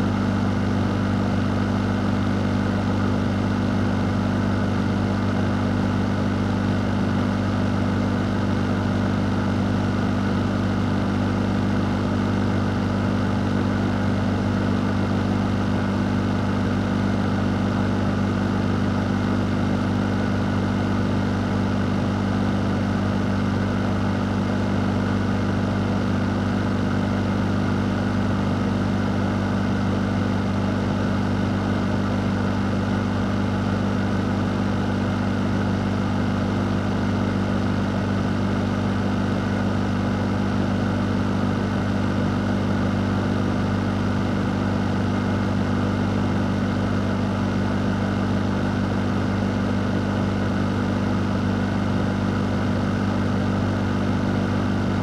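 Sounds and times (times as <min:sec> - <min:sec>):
fan running: 0:08.2 - 0:55.0.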